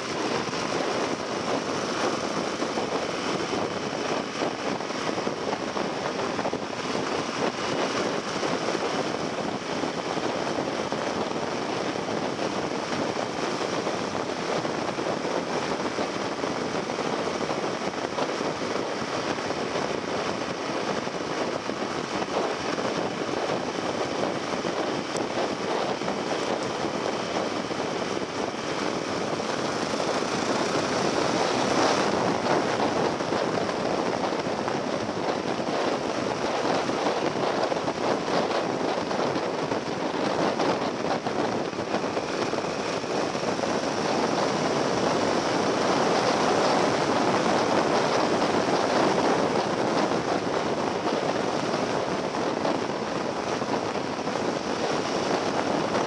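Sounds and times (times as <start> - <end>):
motorcycle engine running: 0.0 - 56.0
road noise: 0.0 - 56.0
wind rushing: 0.0 - 56.0.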